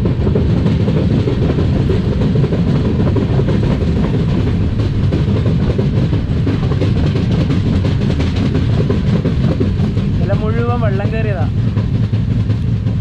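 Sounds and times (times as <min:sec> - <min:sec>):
track joints clattering: 0:00.0 - 0:12.8
train wheels rumbling on rails: 0:00.0 - 0:13.0.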